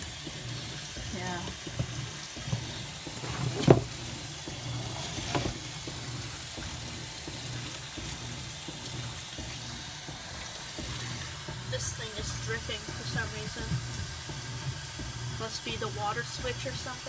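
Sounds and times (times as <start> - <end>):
low electric hum: 0.0 - 17.0
washing machine water rushing: 0.0 - 17.0.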